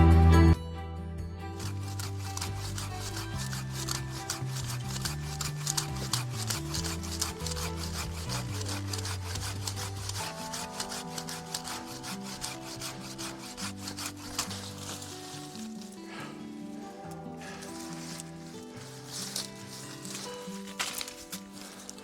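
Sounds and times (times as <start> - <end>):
background music with low notes: 0.0 - 22.0
hand saw cutting branch: 1.5 - 22.0.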